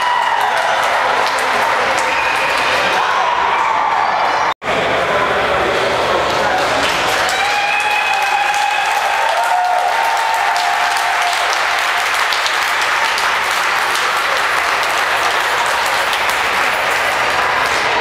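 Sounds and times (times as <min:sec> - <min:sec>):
crowd applauding: 0:00.0 - 0:04.5, 0:06.1 - 0:18.0.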